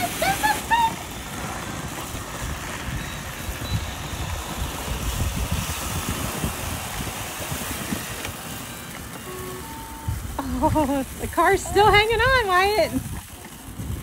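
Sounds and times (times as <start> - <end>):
low uneven rumble: 0.0 - 14.0
robot vacuum cleaners whirring: 0.0 - 14.0.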